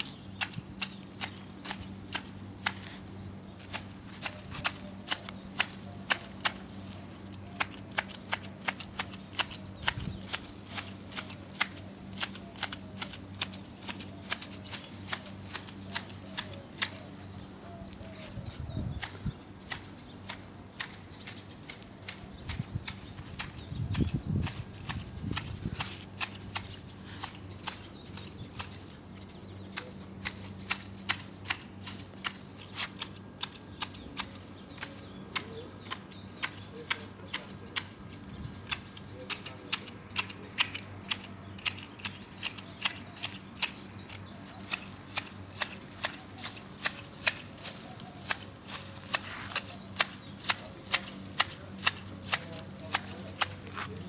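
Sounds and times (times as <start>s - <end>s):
garden shears snipping: 0.0s - 54.0s.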